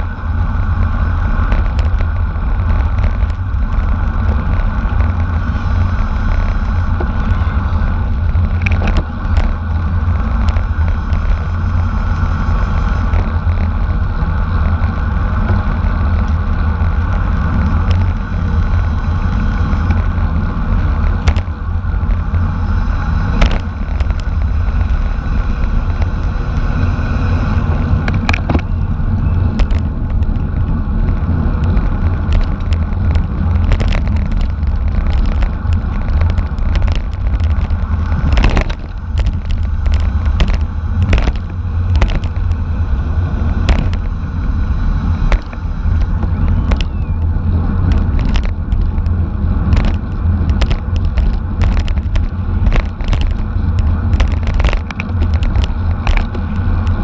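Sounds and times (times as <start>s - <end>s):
road rumble: 0.0s - 57.0s
sharp clicks and rattles: 0.0s - 57.0s
wind buffeting: 0.0s - 57.0s.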